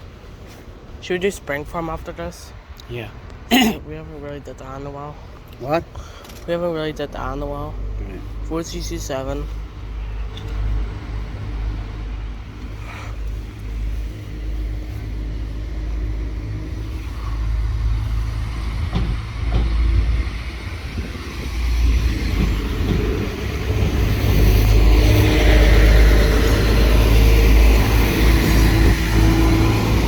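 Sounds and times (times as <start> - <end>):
vehicle engine rumble: 2.6 - 30.0.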